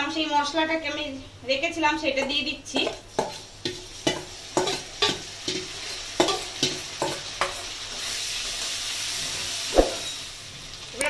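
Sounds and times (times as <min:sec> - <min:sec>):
hot oil sizzling: 0:01.9 - 0:11.0.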